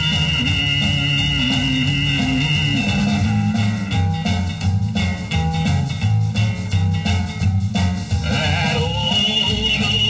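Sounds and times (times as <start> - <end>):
rockabilly record with guitar and bass: 0.0 - 10.0.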